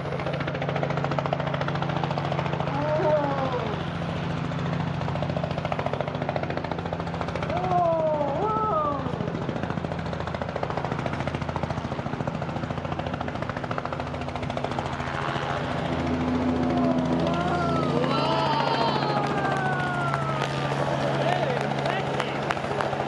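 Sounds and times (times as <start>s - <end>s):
helicopter rotor chopping: 0.0s - 23.0s
low engine hum: 0.0s - 23.0s.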